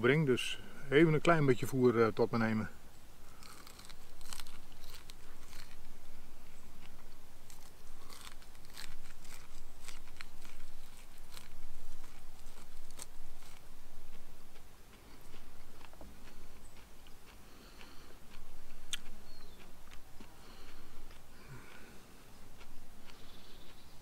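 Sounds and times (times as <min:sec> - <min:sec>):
person chewing corn cob: 0:03.2 - 0:24.0.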